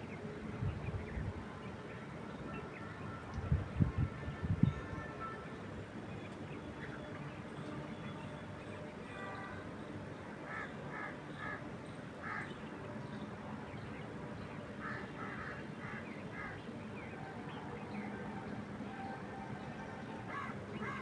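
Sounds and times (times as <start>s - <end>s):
wind through trees: 0.0s - 21.0s.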